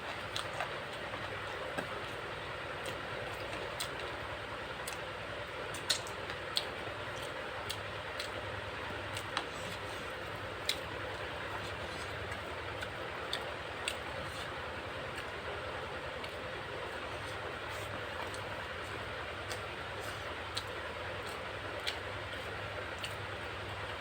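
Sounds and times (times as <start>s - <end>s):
chewing and lip smacks: 0.0s - 23.9s
background hum and hiss: 0.0s - 24.0s.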